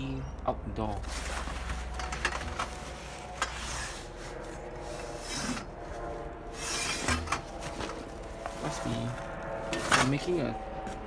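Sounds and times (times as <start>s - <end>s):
goods rubbing and scraping: 0.9s - 11.0s.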